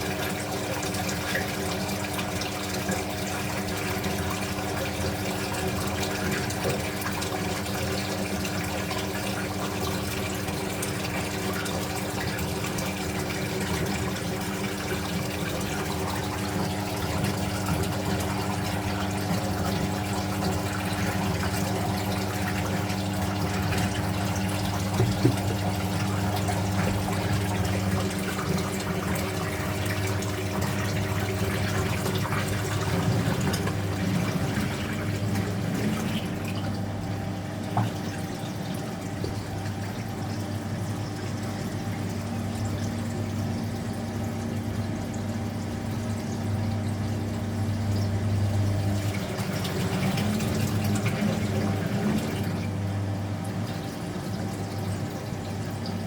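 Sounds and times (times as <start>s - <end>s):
low machine hum: 0.0s - 56.0s
water rushing in washing machine: 0.0s - 56.0s.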